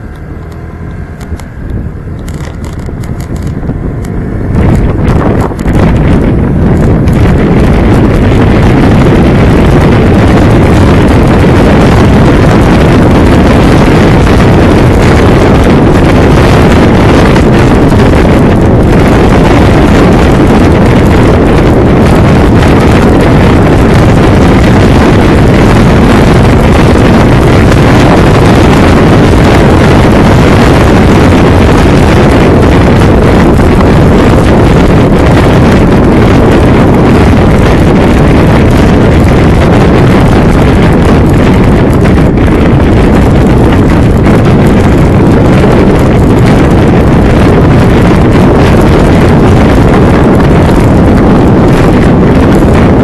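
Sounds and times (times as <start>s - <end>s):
motorcycle engine and road noise: 0.0s - 53.0s
wind buffeting microphone: 0.0s - 53.0s.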